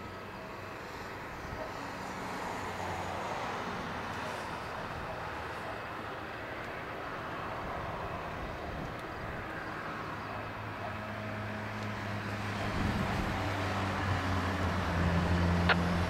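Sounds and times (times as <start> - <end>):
distant jet engine roar: 0.0 - 16.0.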